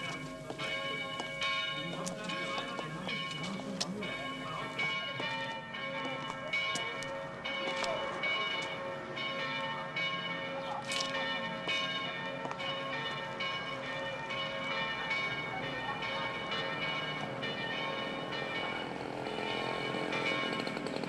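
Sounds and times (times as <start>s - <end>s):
church bells pealing: 0.0s - 21.0s.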